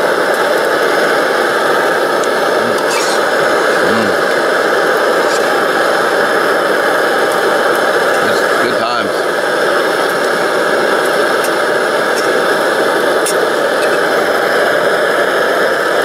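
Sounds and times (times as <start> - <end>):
camp stove burning: 0.0 - 16.0.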